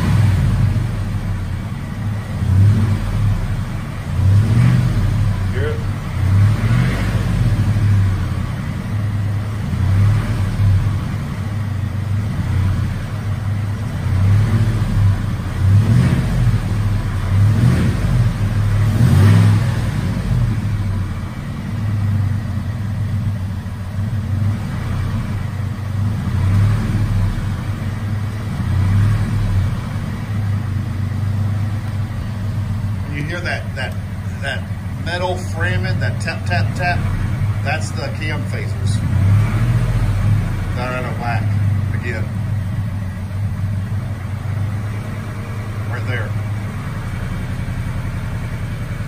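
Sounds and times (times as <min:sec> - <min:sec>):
engine revving in blips: 0:00.0 - 0:49.0.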